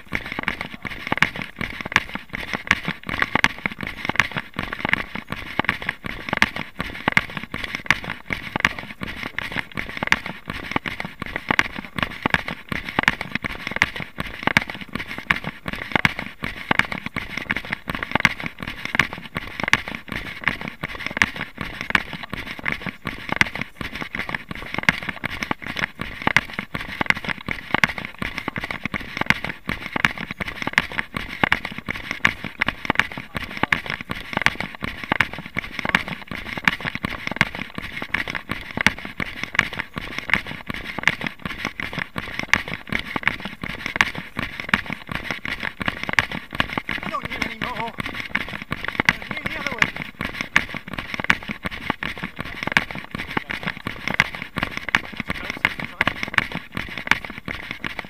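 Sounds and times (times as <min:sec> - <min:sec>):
running footsteps on gravel: 0:00.0 - 0:58.0.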